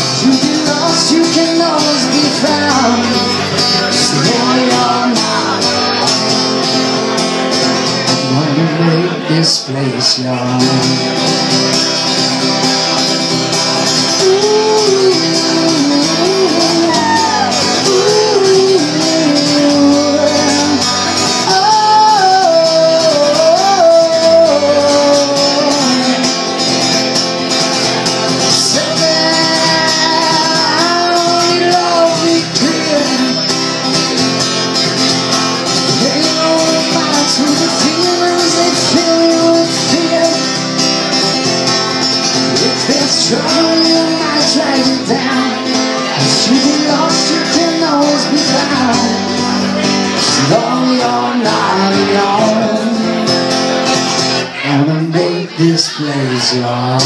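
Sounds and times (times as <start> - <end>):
man singing into a microphone: 0.0 - 27.1, 27.7 - 57.0
acoustic guitar strumming: 0.0 - 57.0.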